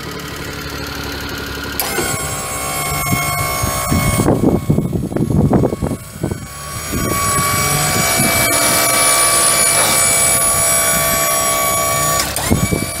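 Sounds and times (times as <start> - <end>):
hydraulic pump whining: 0.0 - 13.0.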